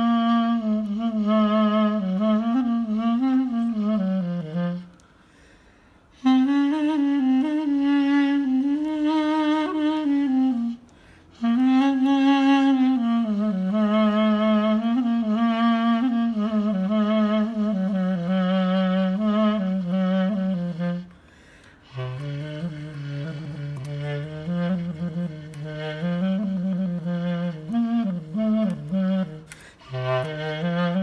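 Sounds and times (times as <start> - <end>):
solo clarinet improvisation: 0.0 - 31.0.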